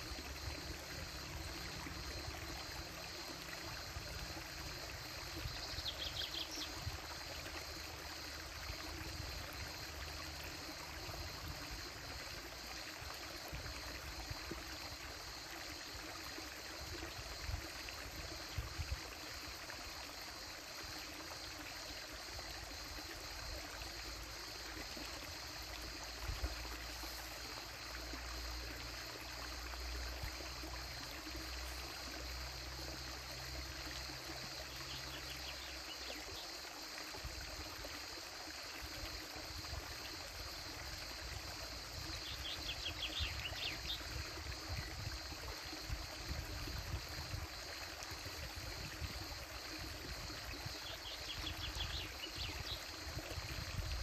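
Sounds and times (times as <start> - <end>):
creek water trickling: 0.0 - 54.0
crickets chirping: 0.0 - 54.0.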